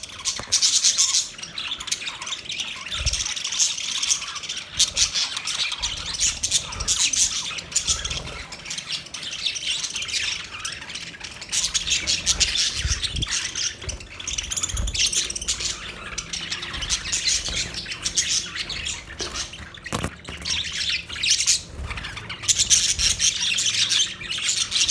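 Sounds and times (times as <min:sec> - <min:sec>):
budgerigars chattering and chirping: 0:00.0 - 0:24.9.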